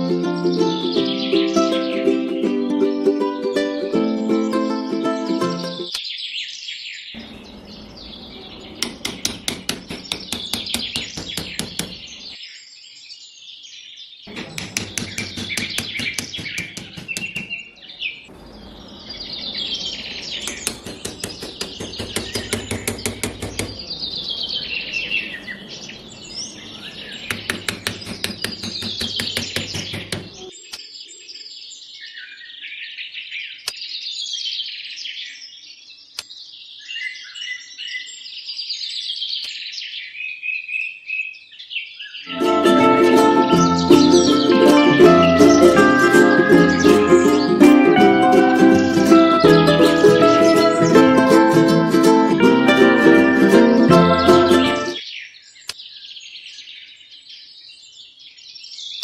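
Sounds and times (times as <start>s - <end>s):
birds chirping and singing: 0.0s - 3.2s, 4.0s - 59.0s.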